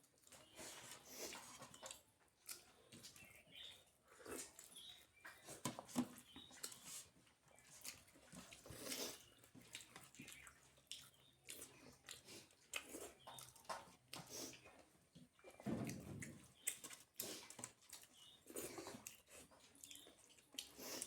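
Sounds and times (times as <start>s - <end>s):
chewing and mouth smacks: 0.0s - 21.0s.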